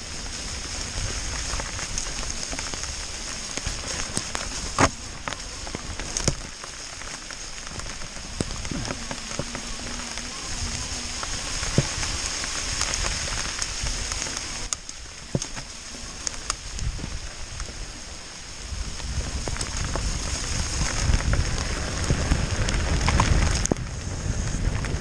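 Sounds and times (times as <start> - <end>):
hail pellets ticking: 0.0 - 25.0
steady rain hiss: 0.0 - 25.0.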